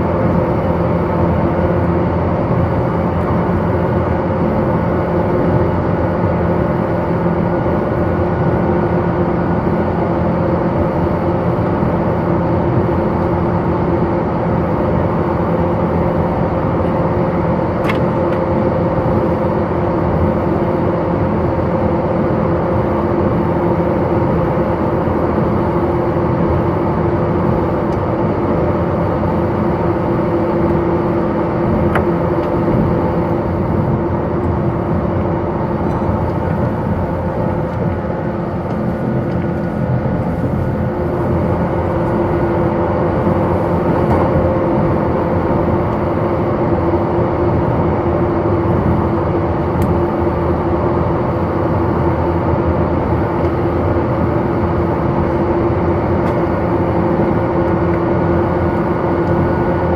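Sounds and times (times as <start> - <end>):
steady humming tones: 0.0 - 59.9.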